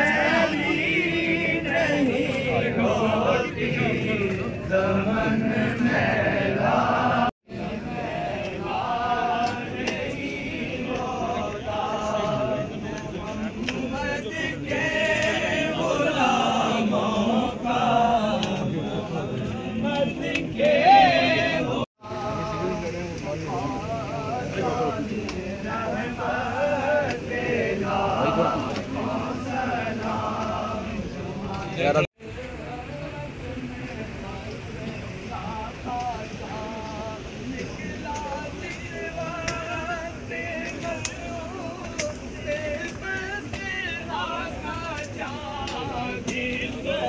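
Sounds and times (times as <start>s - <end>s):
crowd of men chanting: 0.0s - 47.0s.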